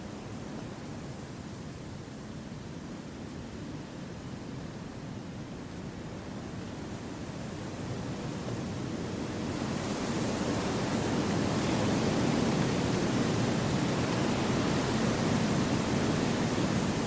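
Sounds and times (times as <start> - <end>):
wind through forest trees: 0.0 - 17.0.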